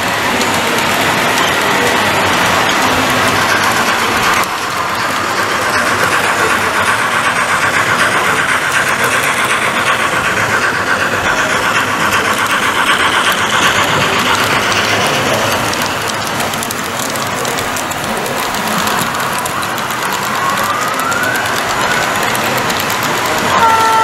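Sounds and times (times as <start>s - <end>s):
model locomotive diesel engine sound: 0.0s - 24.0s.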